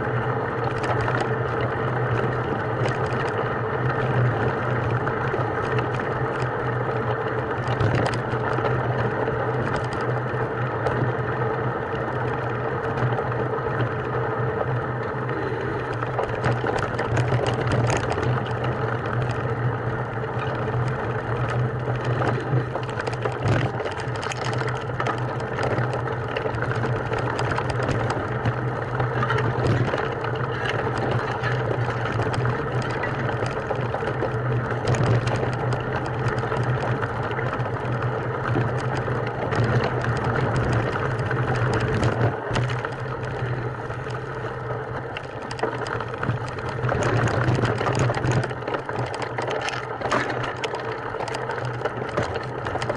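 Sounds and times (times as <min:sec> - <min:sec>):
motor running steadily: 0:00.0 - 0:52.9.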